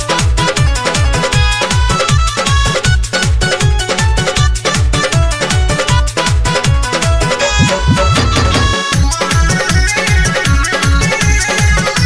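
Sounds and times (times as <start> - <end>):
folk song with heavy drum beat: 0.0 - 12.0.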